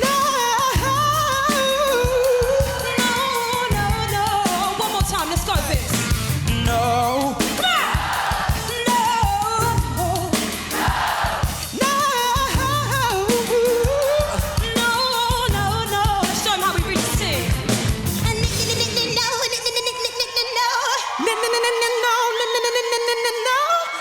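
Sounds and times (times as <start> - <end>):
live pop band: 0.0 - 24.0.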